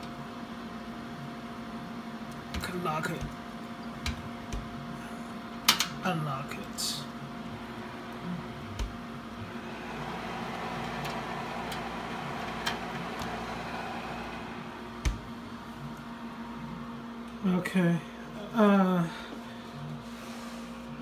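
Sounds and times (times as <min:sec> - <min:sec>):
fridge compressor humming: 0:00.0 - 0:20.1.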